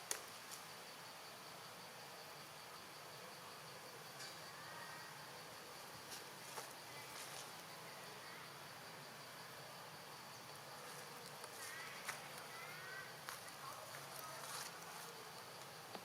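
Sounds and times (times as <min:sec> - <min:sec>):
insect buzz: 0:00.0 - 0:16.0.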